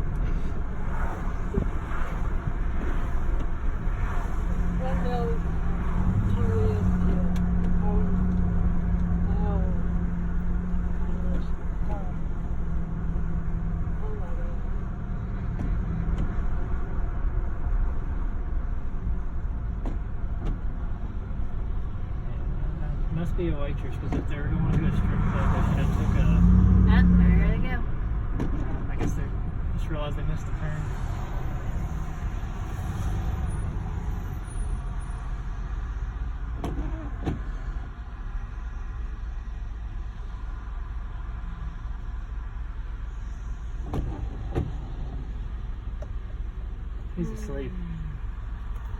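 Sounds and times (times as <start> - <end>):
road and engine rumble in car: 0.0 - 48.9.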